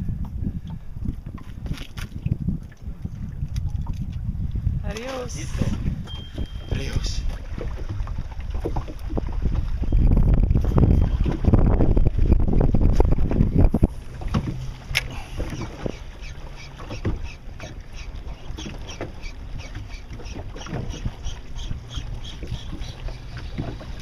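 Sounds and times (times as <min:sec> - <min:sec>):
low hum from boat: 0:00.0 - 0:24.0
water lapping around boat: 0:00.0 - 0:24.0
wind: 0:00.0 - 0:24.0.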